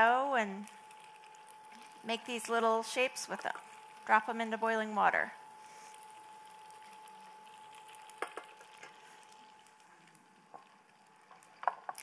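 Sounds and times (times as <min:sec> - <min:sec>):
faint steady hum: 0:00.0 - 0:12.0
food sizzling in butter: 0:00.0 - 0:12.0.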